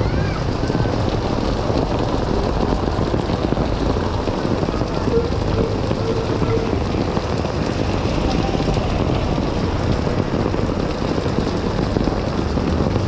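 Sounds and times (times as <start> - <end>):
heavy rain: 0.0 - 13.0
low rumble: 0.0 - 13.0.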